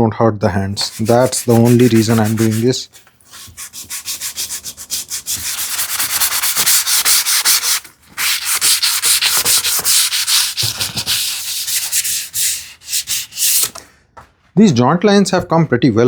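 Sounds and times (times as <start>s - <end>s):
sandpaper rubbing on wood: 0.7s - 13.7s.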